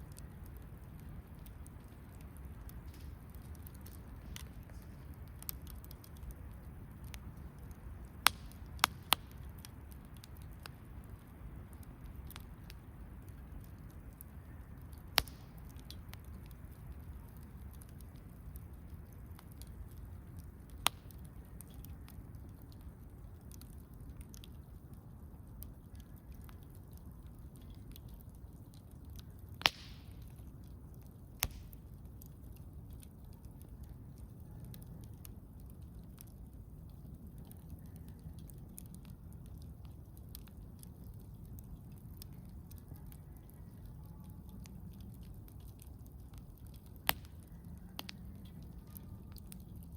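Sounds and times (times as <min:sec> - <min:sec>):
campfire flames rushing: 0:00.0 - 0:49.9
fire crackling: 0:00.0 - 0:49.9
sharp pops from fire: 0:00.0 - 0:49.9.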